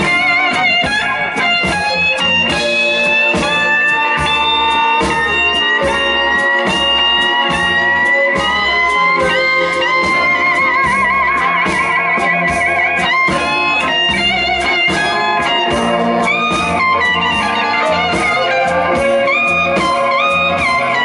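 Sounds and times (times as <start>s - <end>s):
blues band playing: 0.0s - 21.0s
lead guitar bending notes: 0.0s - 21.0s.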